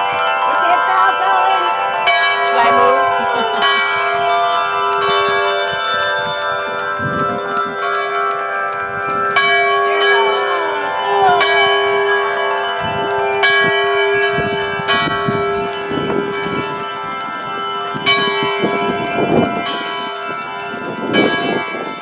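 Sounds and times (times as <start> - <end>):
church bell ringing: 0.0 - 22.0.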